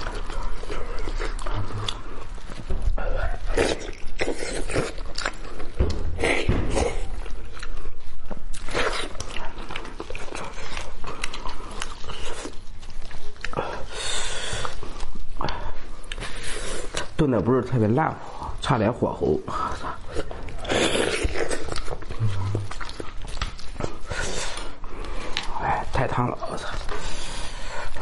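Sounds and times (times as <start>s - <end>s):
biting and chewing meat: 0.0s - 17.2s, 19.6s - 28.0s.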